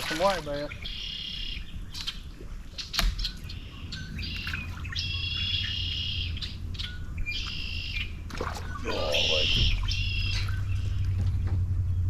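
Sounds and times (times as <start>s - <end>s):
songbird singing buzzy phrases: 0.4s - 11.2s
low steady rumble: 0.7s - 12.0s.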